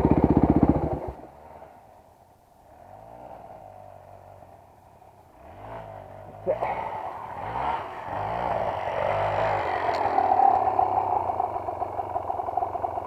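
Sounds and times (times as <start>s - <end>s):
motorcycle engine revving: 0.0s - 2.0s, 2.6s - 13.0s.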